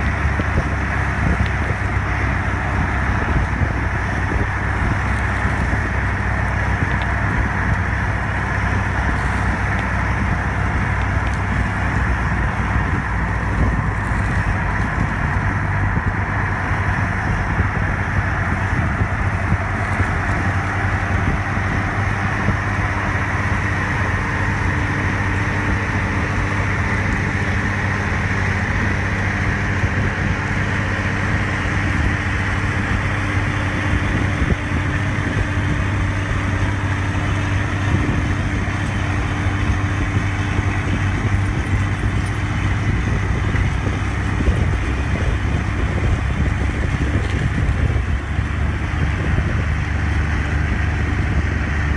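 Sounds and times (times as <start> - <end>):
steady hum: 0.0 - 51.9
tractor diesel engine under load: 0.0 - 51.9.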